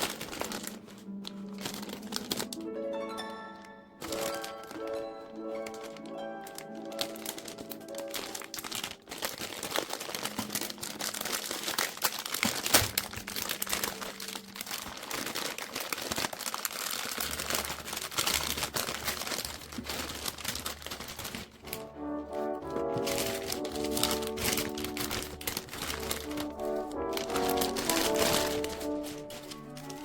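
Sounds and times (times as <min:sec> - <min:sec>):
plastic wrapping crinkling: 0:00.0 - 0:30.0.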